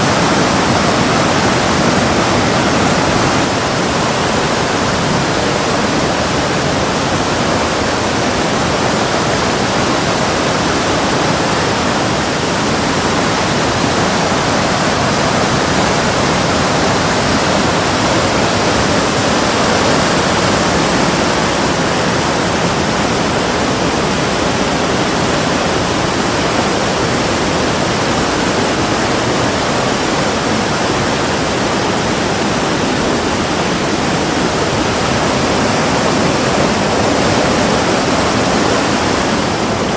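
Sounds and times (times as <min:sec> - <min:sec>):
rush of running water: 0:00.0 - 0:39.9.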